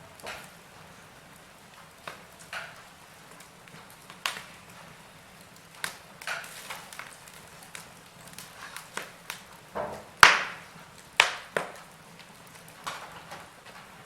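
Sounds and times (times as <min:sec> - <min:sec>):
fire hissing: 0:00.0 - 0:14.0
fire pops and crackles: 0:00.0 - 0:14.0.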